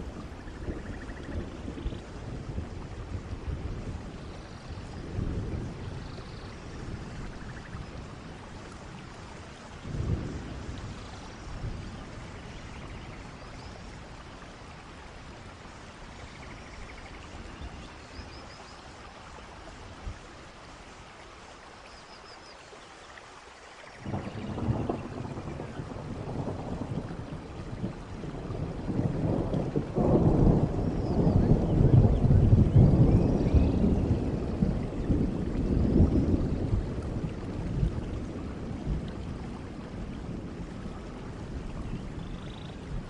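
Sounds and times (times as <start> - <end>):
thunder rumbling: 0.0 - 18.0, 24.0 - 43.0
steady rain falling: 0.0 - 43.0.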